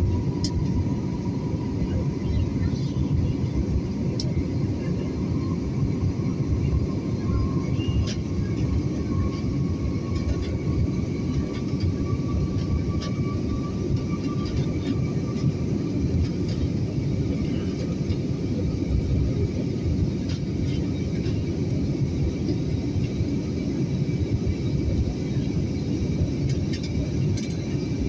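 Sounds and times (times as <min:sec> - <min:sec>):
jet engine and airflow roar: 0:00.0 - 0:28.0.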